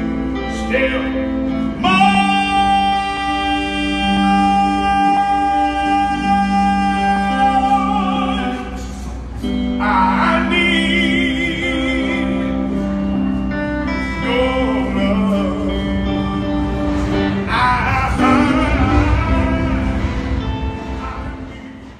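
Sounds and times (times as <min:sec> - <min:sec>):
low sustained accompaniment: 0:00.0 - 0:21.9
man singing with vibrato: 0:00.0 - 0:21.9.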